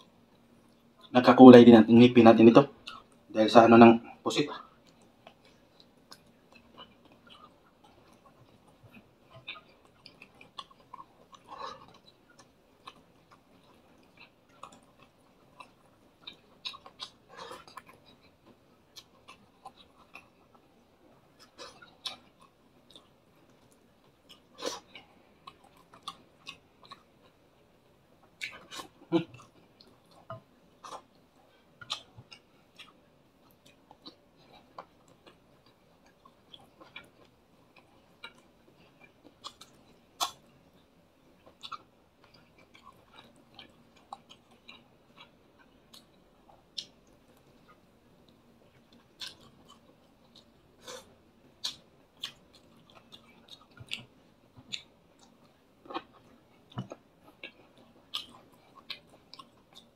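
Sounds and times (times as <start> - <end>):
person chewing food: 2.8 - 3.3, 4.0 - 59.9.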